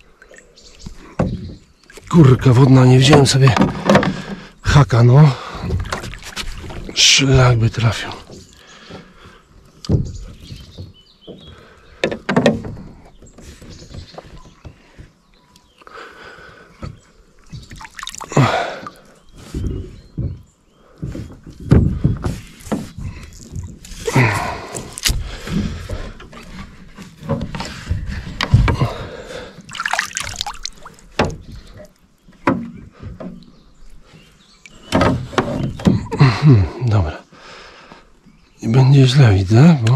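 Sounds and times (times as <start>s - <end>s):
water sloshing around boat: 0.0s - 36.8s.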